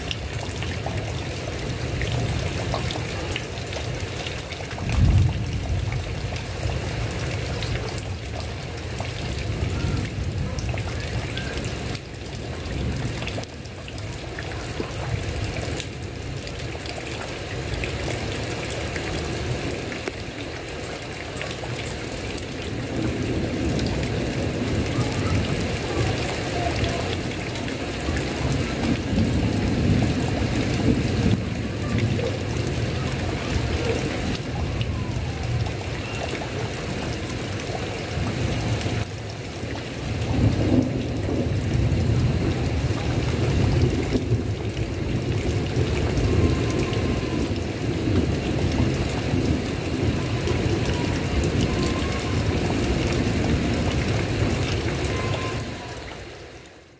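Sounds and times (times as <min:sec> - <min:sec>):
rain on a tile roof: 0:00.0 - 0:56.9.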